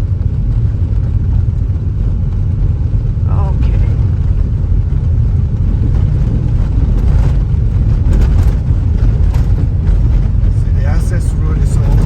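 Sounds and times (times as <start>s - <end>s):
car engine rumble: 0.0s - 12.0s
tyre road noise: 0.0s - 12.0s.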